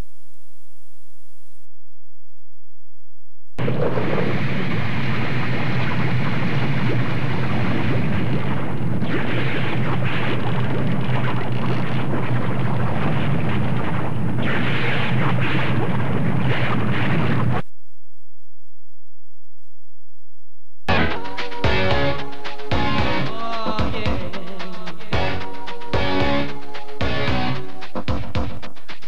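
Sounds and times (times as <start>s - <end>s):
low hum: 0.0s - 23.3s.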